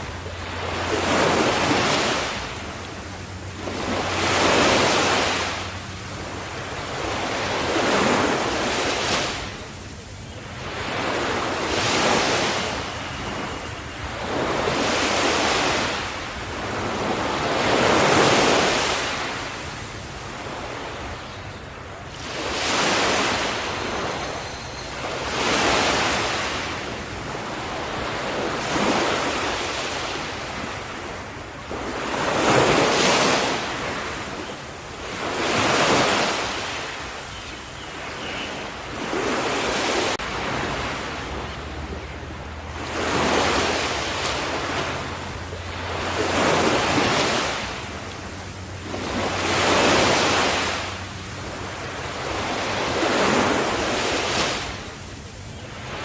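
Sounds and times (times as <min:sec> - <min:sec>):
ocean waves washing onto shore: 0:00.0 - 0:56.0.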